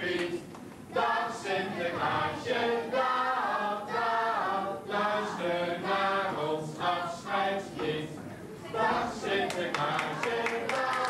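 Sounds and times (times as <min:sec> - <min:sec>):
children singing: 0:01.0 - 0:11.0.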